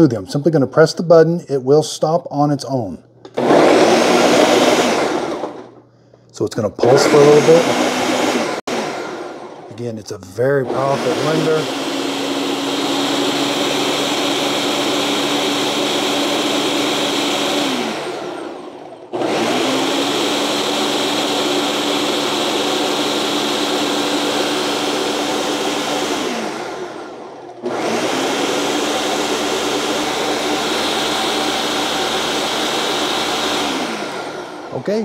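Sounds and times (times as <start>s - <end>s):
blender motor running: 3.3s - 5.8s, 6.8s - 9.7s, 10.4s - 35.0s.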